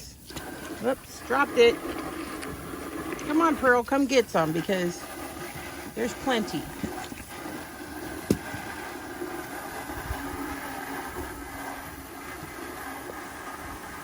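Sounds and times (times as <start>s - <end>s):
motor drone: 0.0s - 14.0s.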